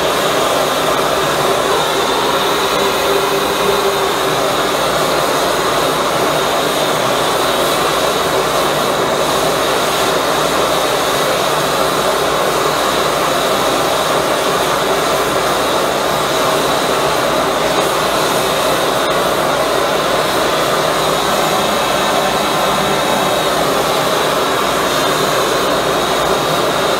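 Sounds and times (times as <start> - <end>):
propane burner roaring: 0.0 - 26.9.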